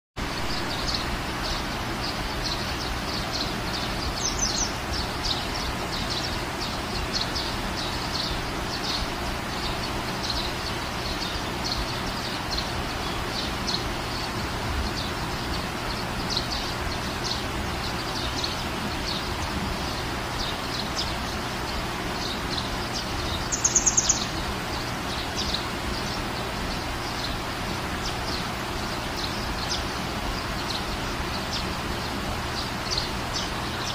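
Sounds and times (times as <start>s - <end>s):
small birds chirping: 0.2s - 33.9s
steady background noise: 0.2s - 33.9s.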